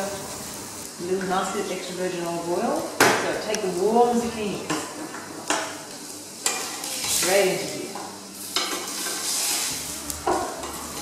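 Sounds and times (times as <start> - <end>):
vegetables sizzling on grill pan: 0.0 - 11.0.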